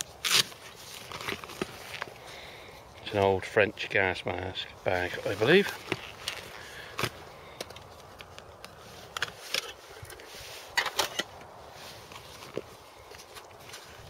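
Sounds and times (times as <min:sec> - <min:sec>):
canvas bag rustling: 0:00.0 - 0:03.2, 0:04.9 - 0:14.0.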